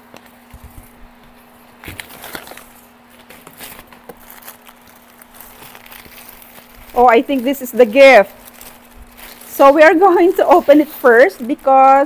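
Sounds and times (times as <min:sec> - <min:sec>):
cardboard and plastic bags rustling: 0:00.0 - 0:12.0
faint steady hum: 0:00.0 - 0:12.0.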